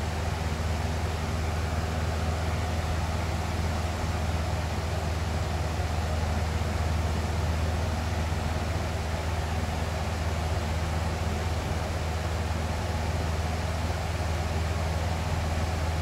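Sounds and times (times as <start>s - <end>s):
box fan running: 0.0s - 16.0s.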